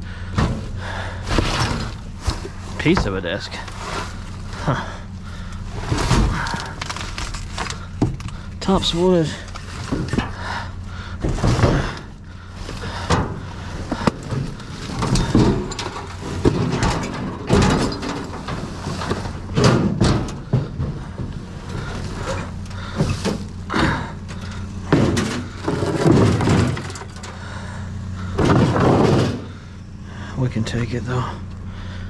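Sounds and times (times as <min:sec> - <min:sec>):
junk knocking and scraping in dumpster: 0:00.0 - 0:32.0
steady low hum: 0:00.0 - 0:32.0.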